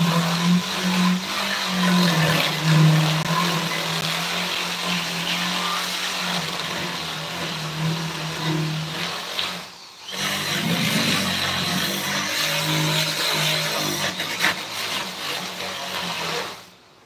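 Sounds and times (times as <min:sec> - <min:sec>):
power tool running against wood: 0:00.0 - 0:16.8.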